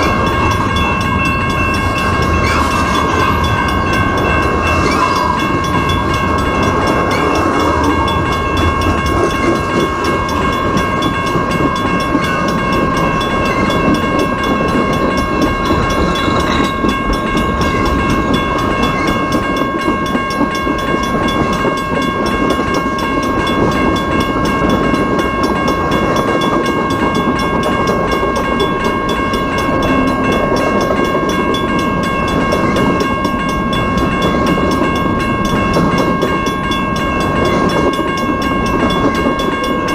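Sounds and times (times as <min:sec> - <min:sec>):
freight train wheels clattering: 0:00.0 - 0:39.9
high-pitched ringing tones: 0:00.0 - 0:39.9.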